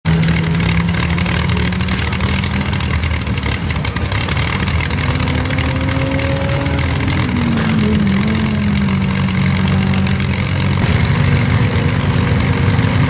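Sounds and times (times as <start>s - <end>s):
aero engine running: 0.0s - 13.0s.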